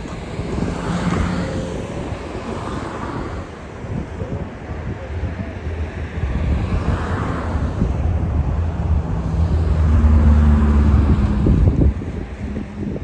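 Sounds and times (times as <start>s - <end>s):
bus engine driving past: 0.0s - 13.0s
wind on microphone: 0.0s - 13.0s.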